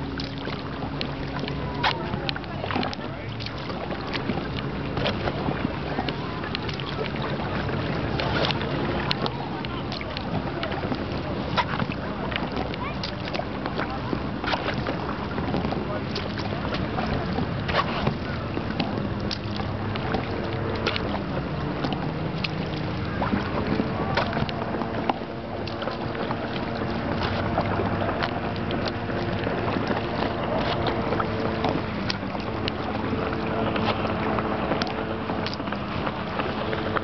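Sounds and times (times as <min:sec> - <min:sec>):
water sloshing around kayak: 0:00.0 - 0:37.0
wind buffeting microphone: 0:00.0 - 0:37.0.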